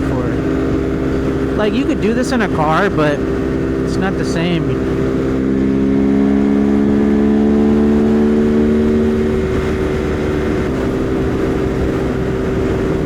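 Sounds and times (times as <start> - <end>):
low wind rumble: 0.0 - 13.0
motorcycle engine cruising: 0.0 - 13.0.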